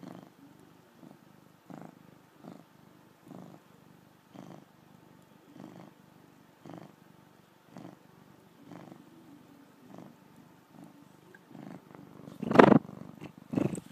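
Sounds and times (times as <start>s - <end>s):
cat purring: 0.0s - 13.9s.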